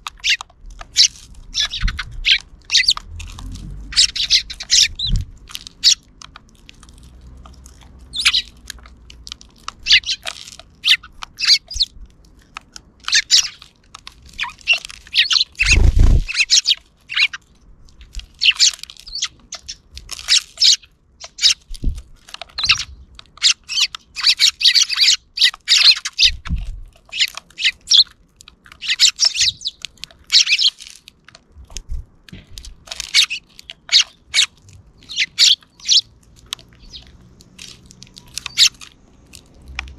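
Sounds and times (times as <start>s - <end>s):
sparrows chirping: 0.0s - 31.0s, 32.4s - 39.9s.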